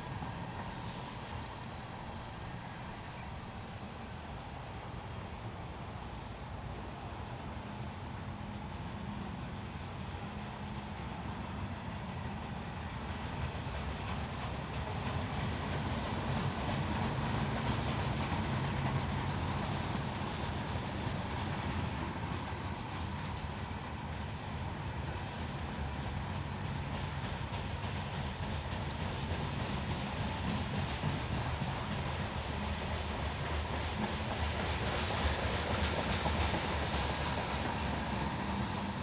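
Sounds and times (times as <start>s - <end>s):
faint train clatter: 0.0s - 39.0s
freight train rumbling past: 0.0s - 39.0s.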